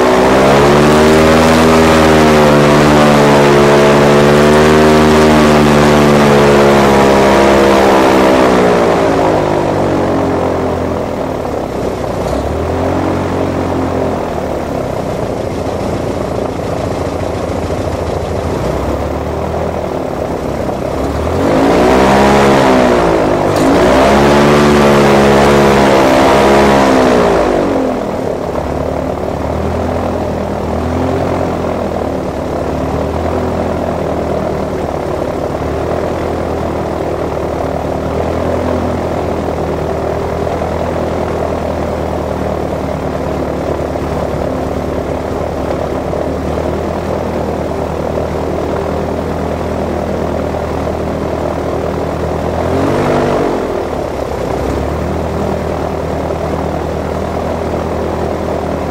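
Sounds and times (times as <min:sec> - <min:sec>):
airboat engine and propeller: 0:00.0 - 0:58.9.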